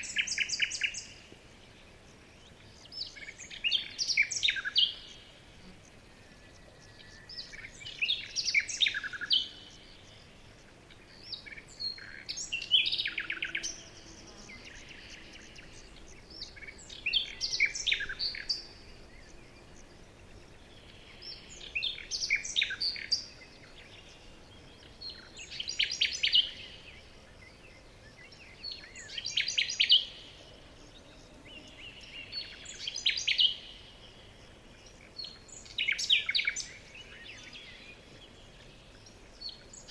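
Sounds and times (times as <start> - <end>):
faint background hiss: 0.0 - 39.9
songbird singing: 0.0 - 39.9.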